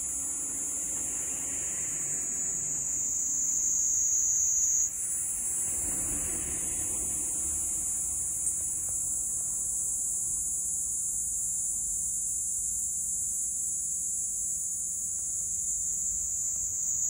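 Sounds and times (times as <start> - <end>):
cicada buzzing: 0.0 - 17.0.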